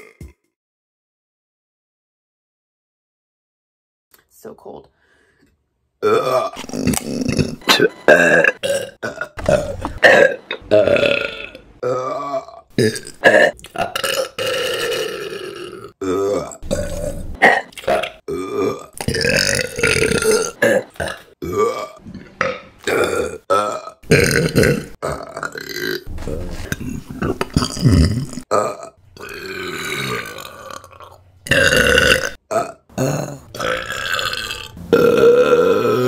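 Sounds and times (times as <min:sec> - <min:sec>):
woman burping: 0:06.0 - 0:26.0, 0:26.7 - 0:36.0.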